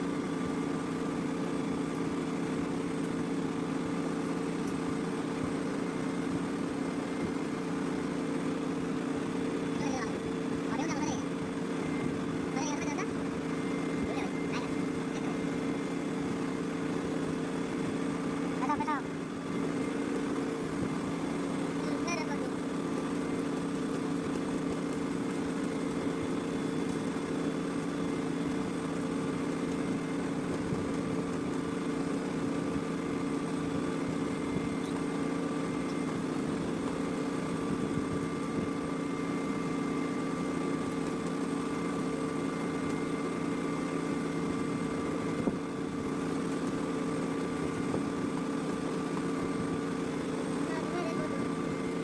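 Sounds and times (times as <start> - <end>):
small electric motor humming: 0.0 - 52.0.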